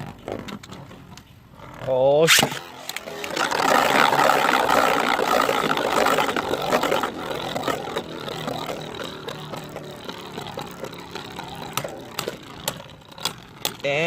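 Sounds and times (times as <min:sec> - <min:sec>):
spinning tops whirring and grinding: 0:00.0 - 0:14.0.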